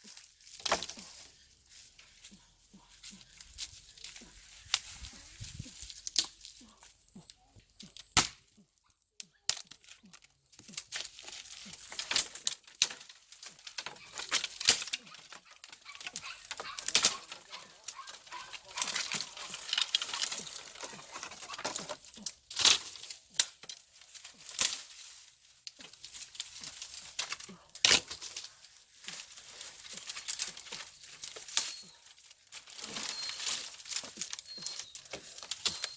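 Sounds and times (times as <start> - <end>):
dry rustling and crinkling: 0.0 - 35.9.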